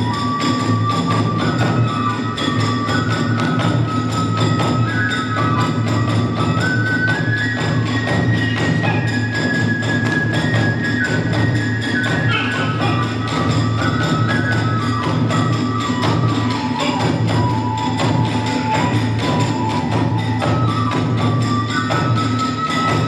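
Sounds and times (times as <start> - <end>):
flute melody: 0.0 - 23.0
small hand cymbals: 0.0 - 23.0
drum beat: 0.6 - 23.0.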